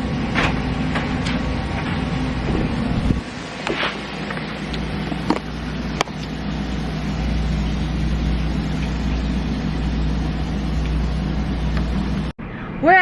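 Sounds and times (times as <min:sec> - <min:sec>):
car engine humming: 0:00.0 - 0:12.3.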